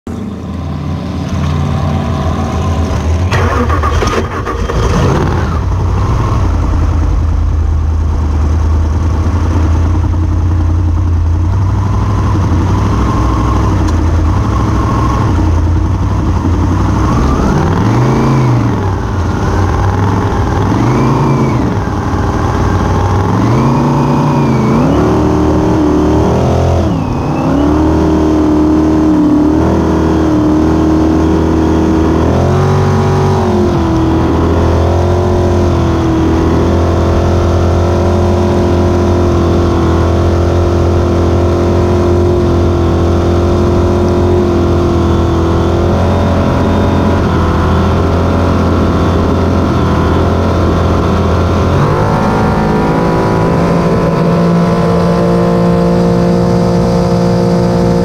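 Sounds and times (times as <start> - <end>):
race boat engine revving: 0.9 - 58.0.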